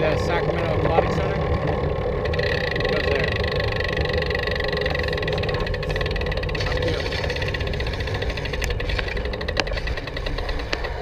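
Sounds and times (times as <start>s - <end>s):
bicycle riding rumble: 0.0s - 11.0s
wind: 0.0s - 11.0s.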